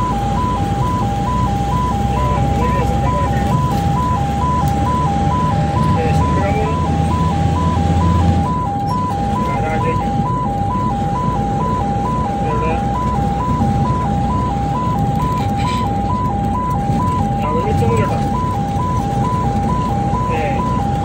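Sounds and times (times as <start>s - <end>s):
engine and road noise: 0.0s - 21.0s
two-tone ambulance siren: 0.0s - 21.0s.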